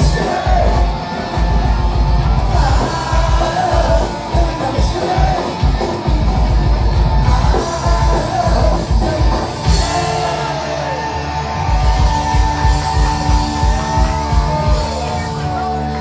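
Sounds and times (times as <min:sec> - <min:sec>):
shouted vocals: 0:00.0 - 0:05.9, 0:07.1 - 0:16.0
live punk rock band: 0:00.0 - 0:16.0.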